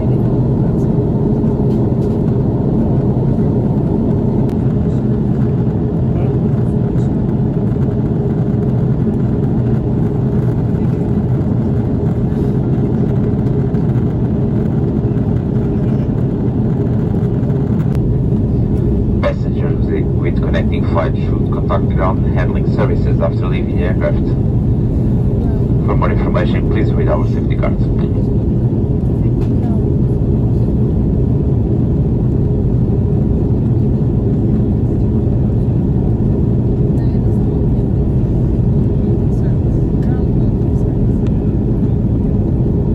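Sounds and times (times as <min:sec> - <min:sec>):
airliner cabin rumble: 0:00.0 - 0:42.9.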